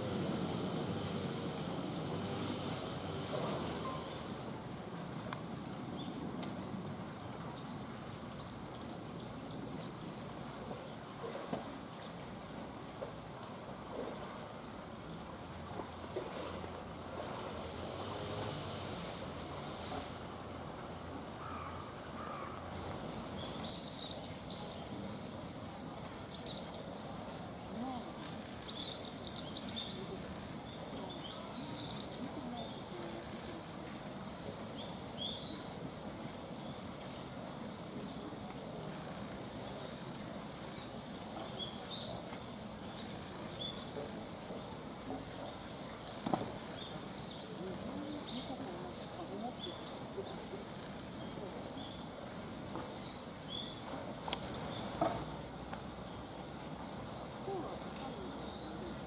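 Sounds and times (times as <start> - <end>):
outdoor background rush: 0.0 - 59.0
steady background hiss: 0.0 - 59.0.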